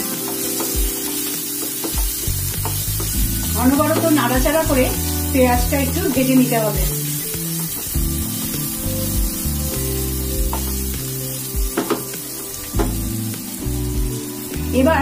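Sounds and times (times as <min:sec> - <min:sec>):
onion sizzling in hot ghee: 0:00.0 - 0:15.0
soft background music: 0:00.0 - 0:15.0.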